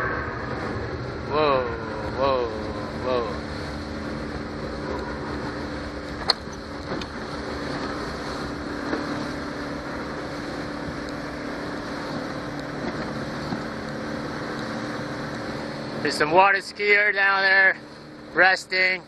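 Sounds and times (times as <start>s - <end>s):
outboard motor running: 0.0s - 19.0s
water noise: 0.0s - 19.0s
wind: 0.0s - 19.0s.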